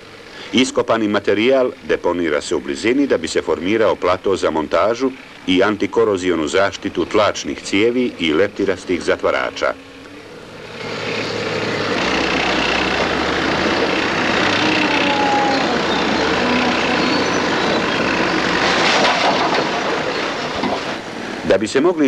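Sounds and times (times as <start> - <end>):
heavy machinery engines: 0.0 - 22.0.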